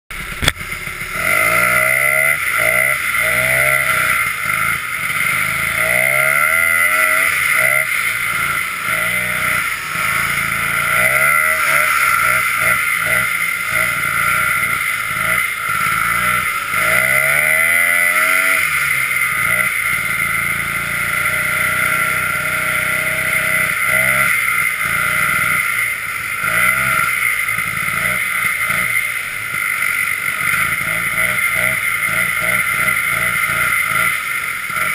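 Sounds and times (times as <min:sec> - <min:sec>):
snowmobile engine revving: 0:00.1 - 0:34.9
steady high whine: 0:00.1 - 0:34.9.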